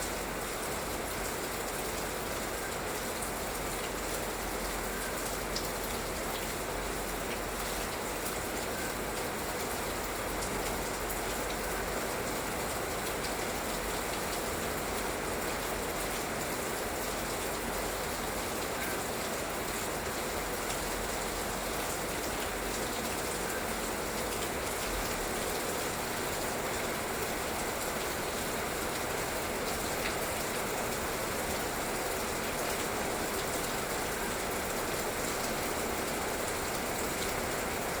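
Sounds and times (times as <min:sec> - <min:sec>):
light rain falling: 0:00.0 - 0:38.0.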